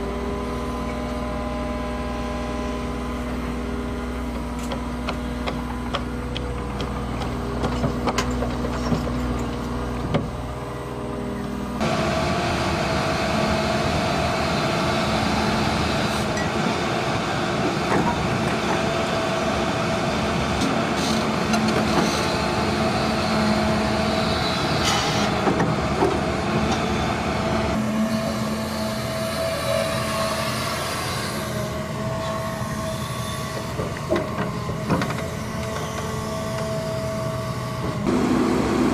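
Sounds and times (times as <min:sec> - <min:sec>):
diesel earthmoving machinery running: 0:00.0 - 0:38.9.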